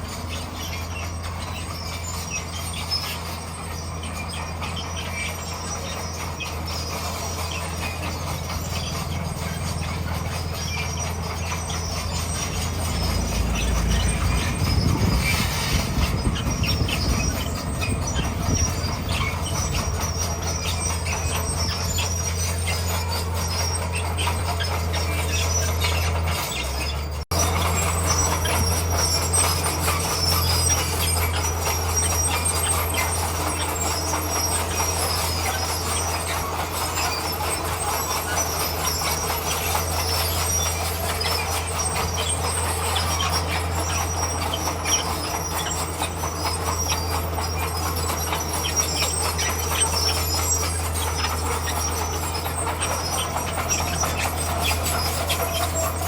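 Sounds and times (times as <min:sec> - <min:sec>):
bulldozer diesel engine droning: 0:00.0 - 0:56.0
steel tracks clattering: 0:00.0 - 0:56.0.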